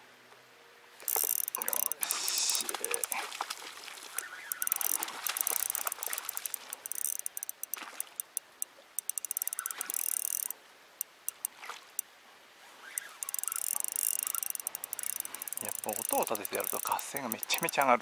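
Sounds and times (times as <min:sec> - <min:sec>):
fishing reel ticking: 0:01.0 - 0:03.2, 0:04.1 - 0:11.6, 0:12.8 - 0:18.0.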